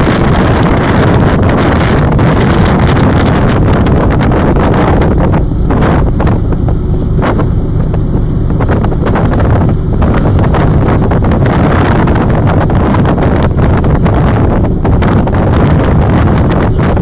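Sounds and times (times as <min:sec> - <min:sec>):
low rumble of ship engine: 0:00.0 - 0:17.0
wind buffeting microphone: 0:00.0 - 0:17.0.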